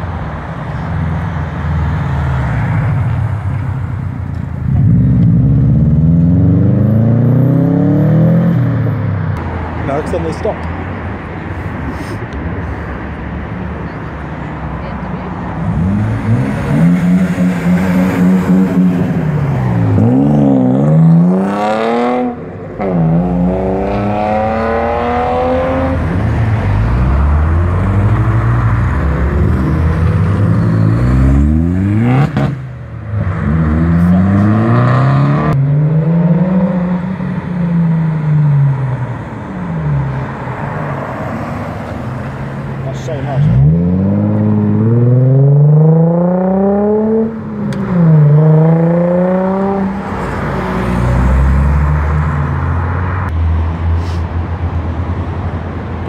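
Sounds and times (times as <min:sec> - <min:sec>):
car engines revving hard: 0:04.4 - 0:10.5, 0:14.5 - 0:53.4.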